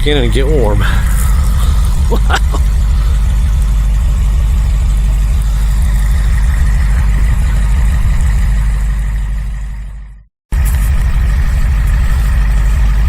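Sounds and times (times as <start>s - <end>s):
blizzard wind buffeting microphone: 0.6s - 13.0s.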